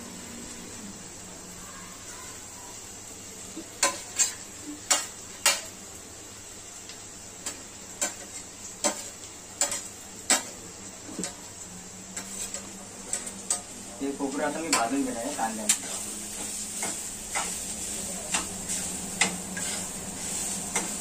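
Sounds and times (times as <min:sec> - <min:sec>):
faint hiss: 0:00.0 - 0:21.0.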